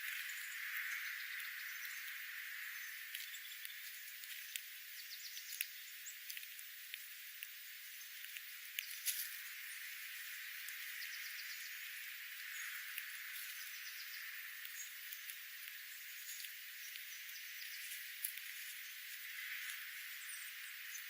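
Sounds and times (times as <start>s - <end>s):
small birds twittering: 0.0s - 21.0s.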